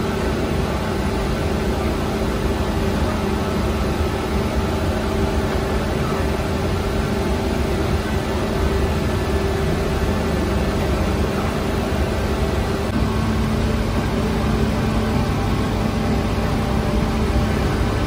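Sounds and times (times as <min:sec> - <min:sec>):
bakery oven burner and fans rushing: 0:00.0 - 0:18.0
constant mid-pitched hum: 0:00.0 - 0:18.0.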